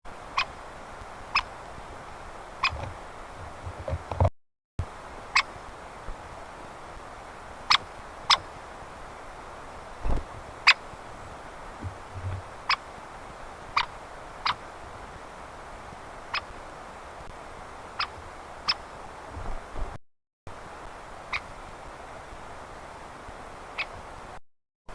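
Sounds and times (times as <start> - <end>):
outdoor hiss: 0.1 - 3.4, 4.8 - 19.8, 20.5 - 24.9.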